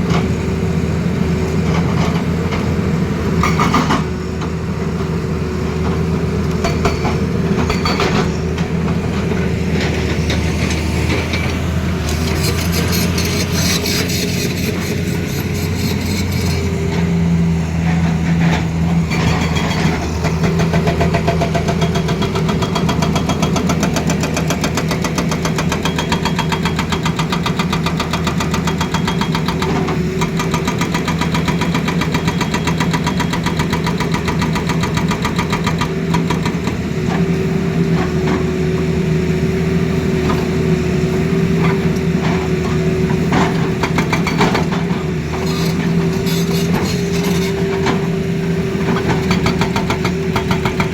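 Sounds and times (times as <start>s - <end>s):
excavator diesel engine humming: 0.0s - 50.9s.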